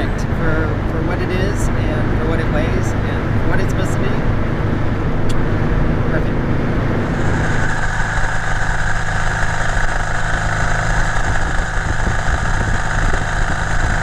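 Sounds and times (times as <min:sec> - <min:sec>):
car engine running: 0:00.0 - 0:14.0
road noise: 0:00.0 - 0:14.0.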